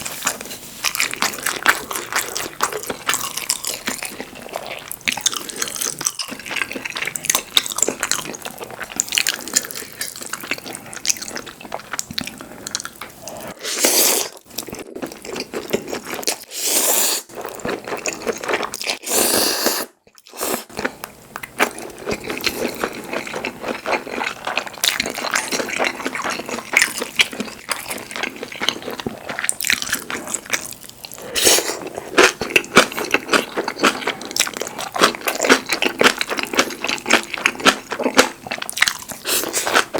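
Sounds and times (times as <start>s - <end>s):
loud drawn-out eating sounds: 0.0s - 39.9s.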